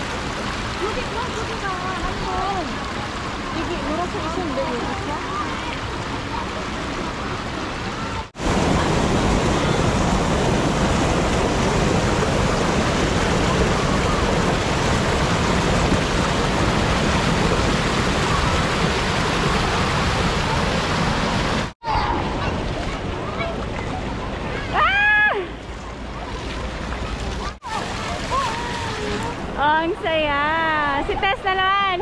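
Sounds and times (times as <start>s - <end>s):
water rushing over a weir: 0.0s - 31.6s
river flowing: 0.0s - 31.7s.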